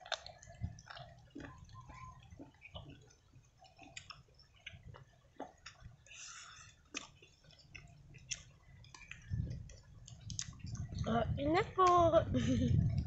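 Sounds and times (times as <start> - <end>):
chewing and mouth sounds: 0.0 - 11.1.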